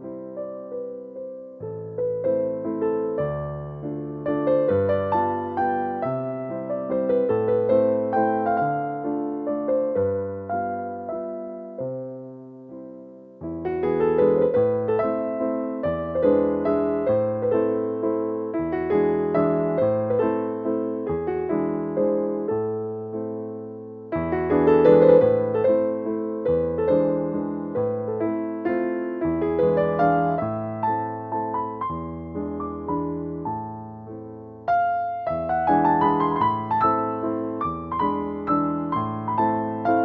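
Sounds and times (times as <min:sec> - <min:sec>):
piano waltz: 0:00.0 - 0:40.0.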